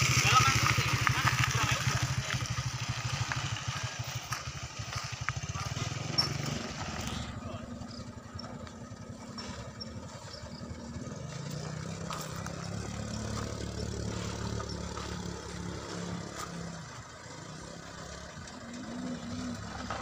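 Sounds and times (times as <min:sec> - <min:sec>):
truck engines running: 0:00.0 - 0:20.0.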